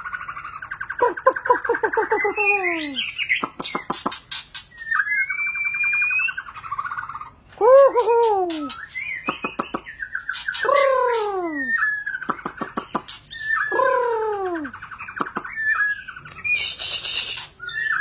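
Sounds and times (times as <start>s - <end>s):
bird singing varied song: 0.0s - 18.0s.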